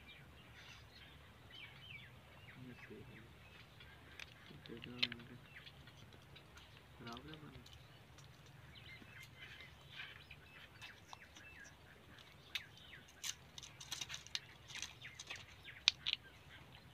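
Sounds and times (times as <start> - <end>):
parrots chirping and squeaking: 0.5 - 16.9.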